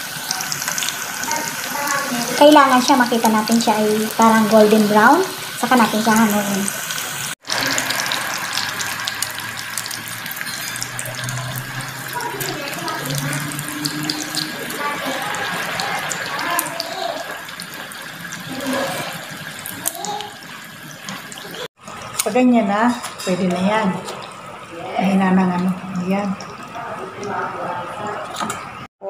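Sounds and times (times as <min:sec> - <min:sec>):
deep-frying sizzle and pops: 0:00.0 - 0:24.4.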